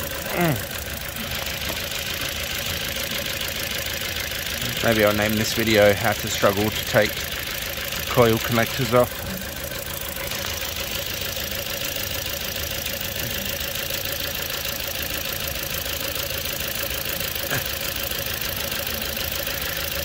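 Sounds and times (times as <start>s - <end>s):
car engine idling with misfire: 0.0s - 20.0s.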